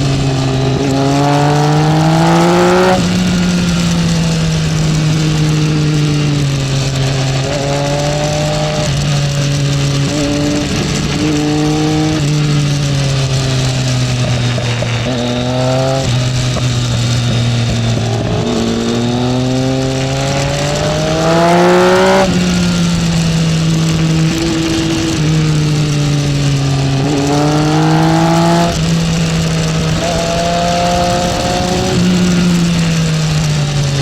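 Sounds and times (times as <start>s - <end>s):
motorcycle engine accelerating: 0.0s - 34.0s
steady rushing noise: 0.0s - 34.0s.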